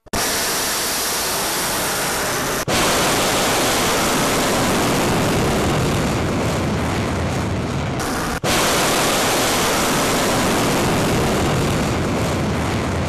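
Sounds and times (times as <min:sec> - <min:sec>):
rocket motor roaring: 0:00.1 - 0:13.0.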